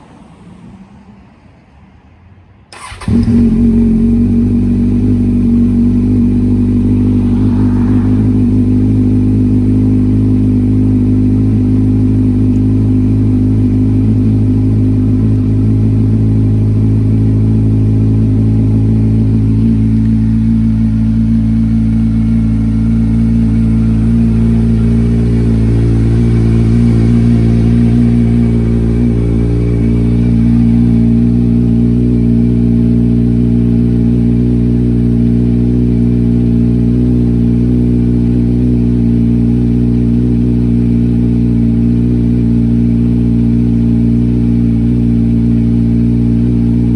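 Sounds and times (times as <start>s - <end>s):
motorcycle engine idling: 2.8s - 46.9s.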